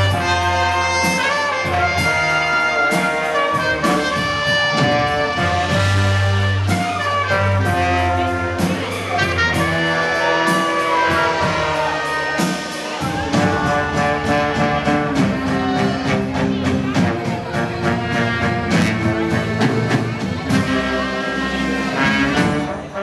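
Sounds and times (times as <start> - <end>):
live jazz band with horns: 0.0 - 23.0.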